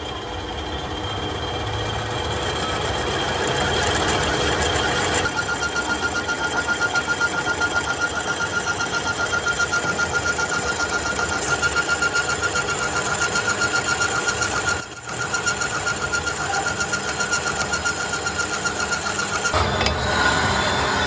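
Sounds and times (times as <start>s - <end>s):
metal lathe running: 0.0s - 21.0s
cutting tool scraping steel: 2.6s - 21.0s.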